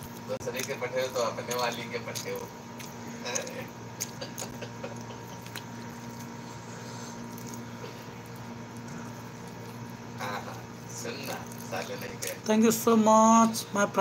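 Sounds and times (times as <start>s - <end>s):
crisp flatbread crackles: 0.0s - 12.8s
steady low hum: 0.0s - 14.0s.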